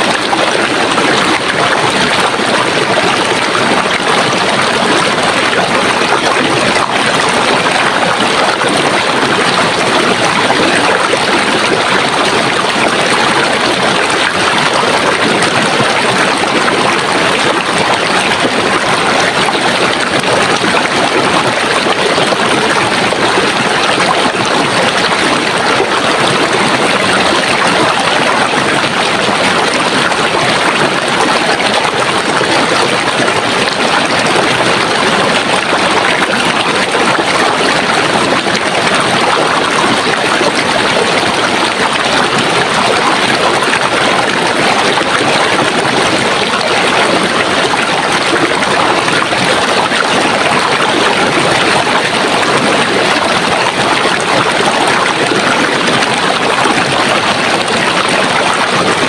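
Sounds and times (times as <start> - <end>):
stream water rushing and babbling: 0.0 - 59.0.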